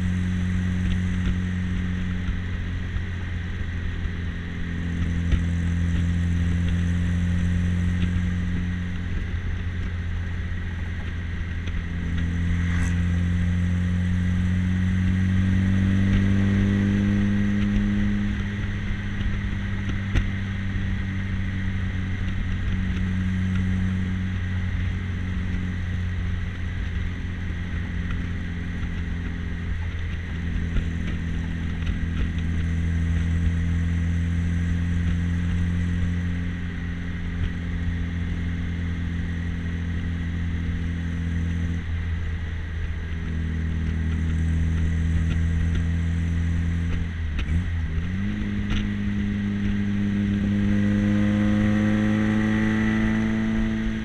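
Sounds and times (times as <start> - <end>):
car engine cruising: 0.0 - 54.0.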